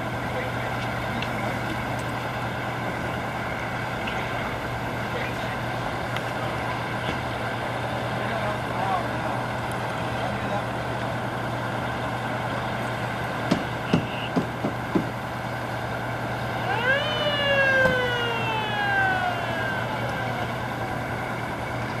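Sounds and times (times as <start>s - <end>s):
fire engine siren: 0.0s - 14.6s, 15.2s - 22.0s
truck engine running: 0.0s - 22.0s.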